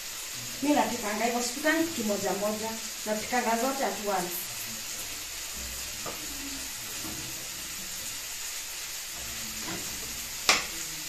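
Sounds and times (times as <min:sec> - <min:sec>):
pots hissing on gas stove: 0:00.0 - 0:11.0.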